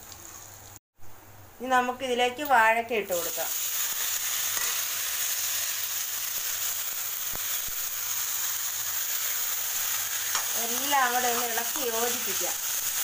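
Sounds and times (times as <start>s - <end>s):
hot oil sizzling: 0.0s - 0.8s, 1.6s - 13.0s.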